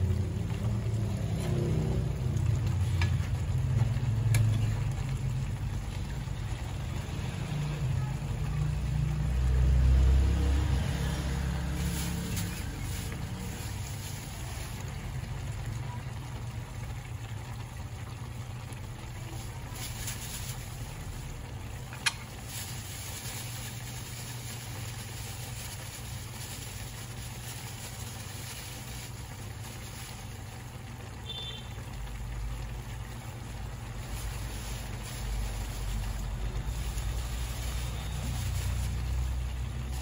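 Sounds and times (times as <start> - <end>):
soup simmering low rumble: 0.0 - 40.0.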